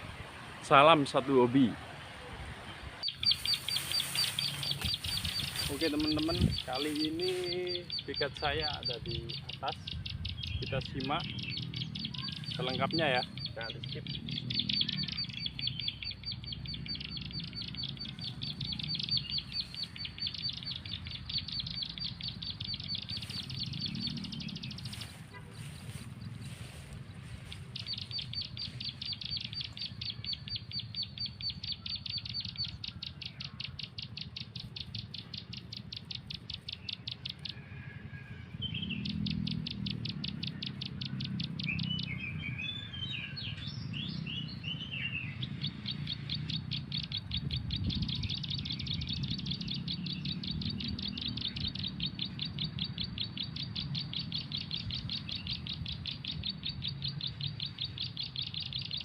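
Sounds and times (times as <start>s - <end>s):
steady low rumble: 2.4s - 37.3s, 45.4s - 59.0s
high-pitched bird trill: 3.0s - 26.0s, 27.4s - 59.0s
bird twittering: 3.0s - 59.0s.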